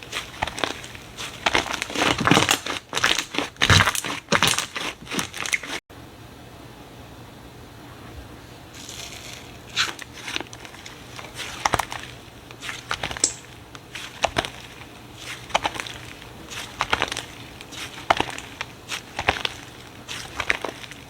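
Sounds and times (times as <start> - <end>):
slime crackling and popping: 0.0 - 5.8, 8.8 - 21.0.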